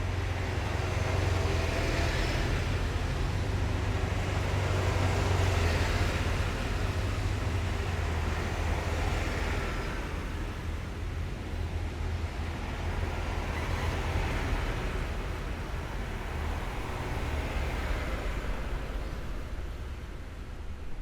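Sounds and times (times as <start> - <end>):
heavy vehicles engine rumble: 0.0 - 21.0
road noise: 0.0 - 21.0.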